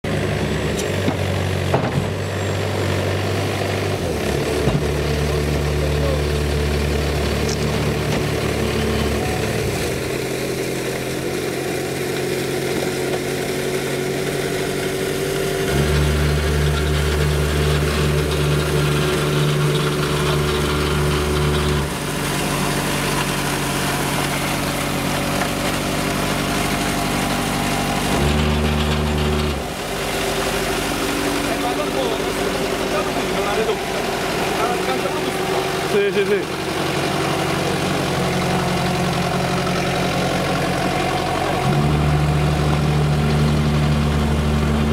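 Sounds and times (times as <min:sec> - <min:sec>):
truck engine running slowly: 0:00.0 - 0:44.9.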